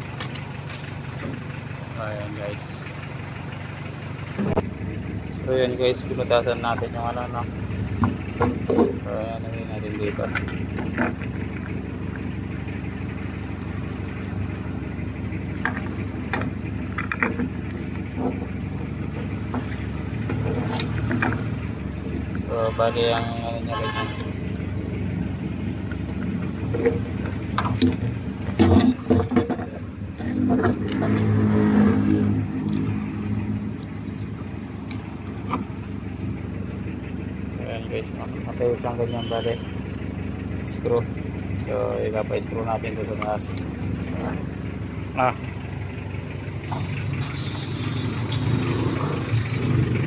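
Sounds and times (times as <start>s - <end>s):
low background rumble: 0.0s - 50.0s
vehicle engine humming: 0.0s - 50.0s.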